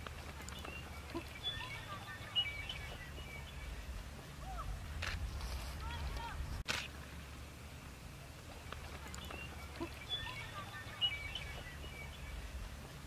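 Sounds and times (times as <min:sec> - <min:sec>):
small birds chirping: 0:00.0 - 0:06.4, 0:07.6 - 0:13.0
low wind rumble: 0:00.0 - 0:13.0.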